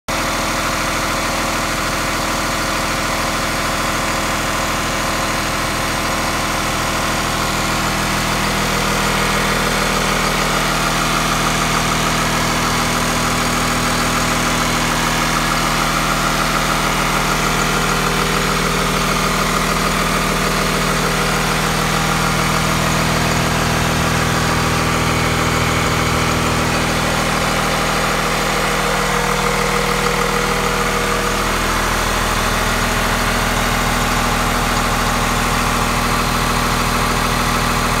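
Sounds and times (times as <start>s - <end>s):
diesel engine idling: 0.1s - 38.0s.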